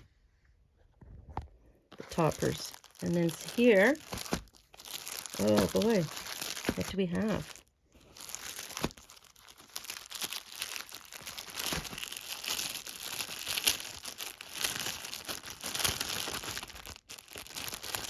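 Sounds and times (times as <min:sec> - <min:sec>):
gift wrapping crinkling: 0:01.9 - 0:18.0.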